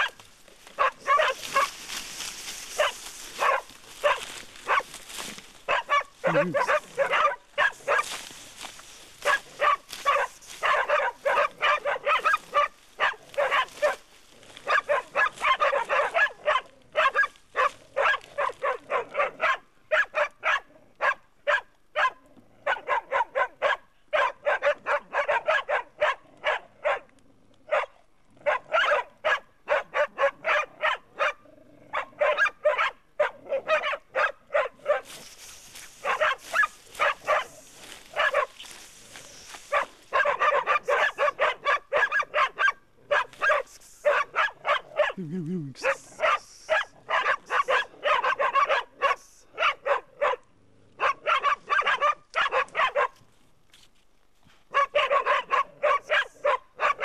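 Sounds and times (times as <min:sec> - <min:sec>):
dog barking sharply: 0:00.8 - 0:01.8, 0:02.8 - 0:04.9, 0:05.7 - 0:08.2, 0:09.2 - 0:14.0, 0:14.6 - 0:27.1, 0:27.7 - 0:35.1, 0:36.0 - 0:38.6, 0:39.7 - 0:50.4, 0:51.0 - 0:53.2, 0:54.7 - 0:57.0.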